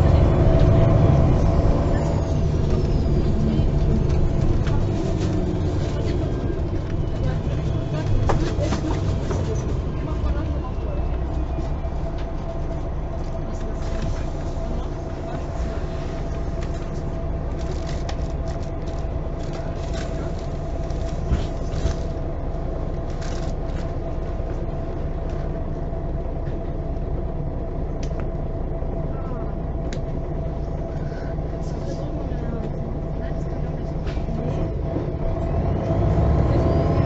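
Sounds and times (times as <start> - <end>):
bus engine and road noise: 0.0 - 37.0.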